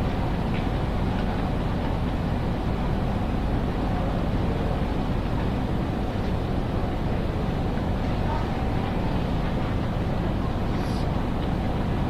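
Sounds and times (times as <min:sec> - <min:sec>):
railway station hall rumble: 0:00.0 - 0:12.0.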